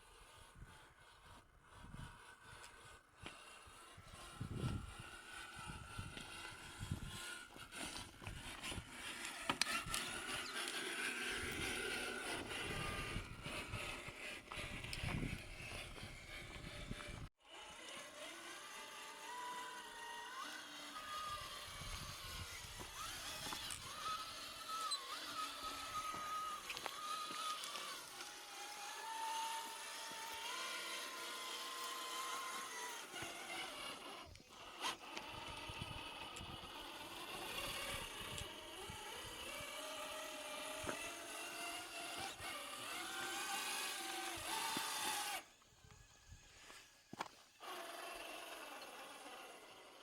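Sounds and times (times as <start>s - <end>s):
electric motor whining: 0.0s - 50.0s
clicks and scrapes on rough ground: 0.2s - 50.0s.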